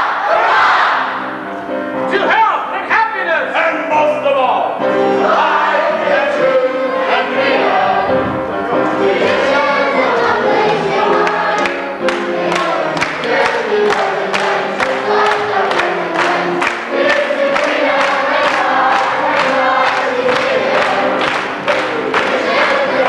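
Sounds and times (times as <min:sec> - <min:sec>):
chorus singing: 0:00.0 - 0:02.4, 0:04.7 - 0:23.0
musical accompaniment: 0:00.0 - 0:23.0.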